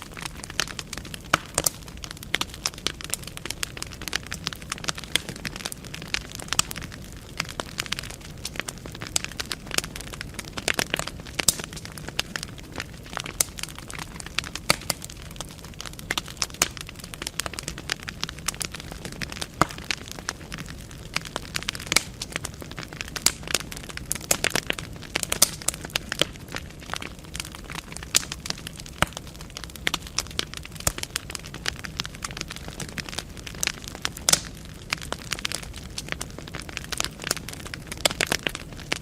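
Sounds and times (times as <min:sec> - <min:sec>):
logs crackling and popping: 0:00.0 - 0:39.0
low rumble of flames: 0:00.0 - 0:39.0.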